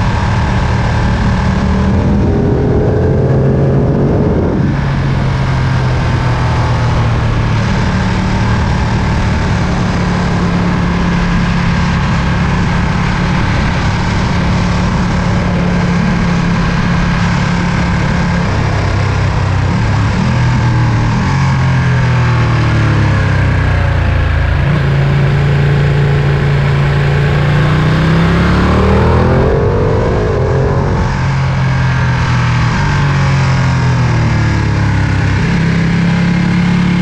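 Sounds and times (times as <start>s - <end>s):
motorcycle engine running: 0.0s - 37.0s
wind and road rush: 0.0s - 37.0s.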